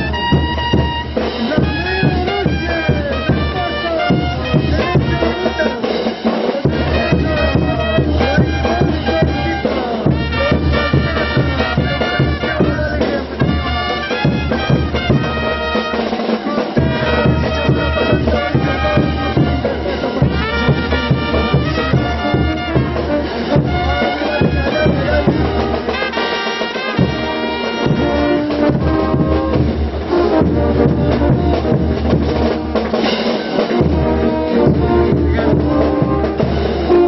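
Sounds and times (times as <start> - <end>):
brass band playing dance tune: 0.0 - 37.0
steady drum beat: 0.0 - 37.0.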